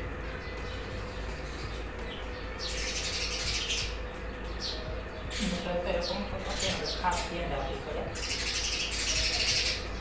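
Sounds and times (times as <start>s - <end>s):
birds chirping: 0.0s - 10.0s
steady low hum: 0.0s - 10.0s.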